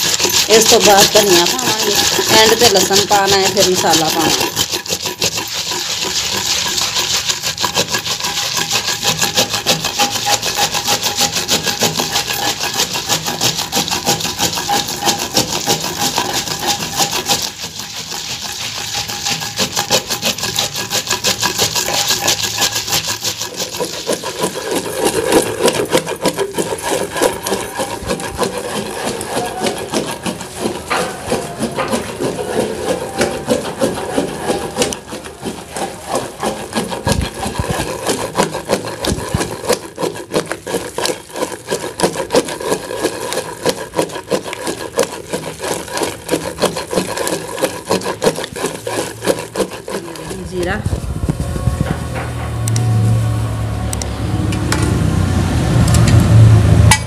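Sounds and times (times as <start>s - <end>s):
pestle pounding in metal mortar: 0.0s - 53.1s, 54.5s - 57.0s.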